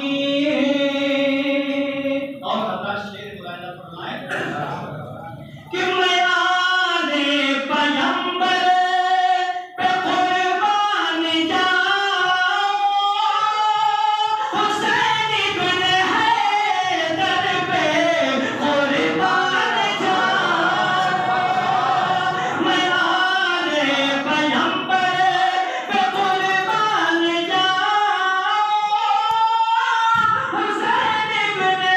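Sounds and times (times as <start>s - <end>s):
man chanting into a microphone: 0.0s - 20.4s, 22.4s - 31.9s.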